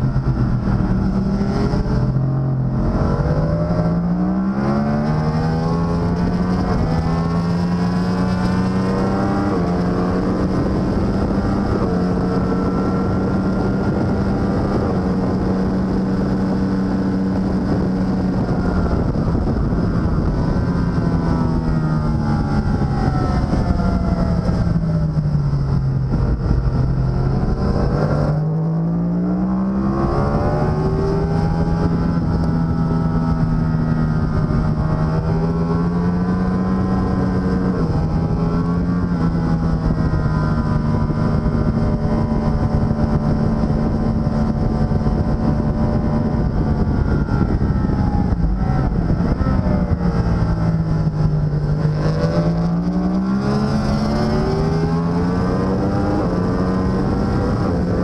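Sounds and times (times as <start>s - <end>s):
racing motorcycle engine: 0.0s - 58.0s.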